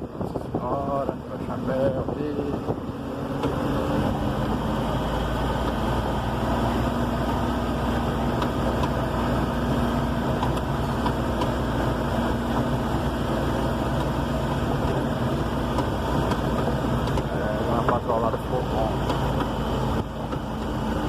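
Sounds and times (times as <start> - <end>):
road rumble: 0.0 - 21.0
vehicle engine running: 0.0 - 21.0.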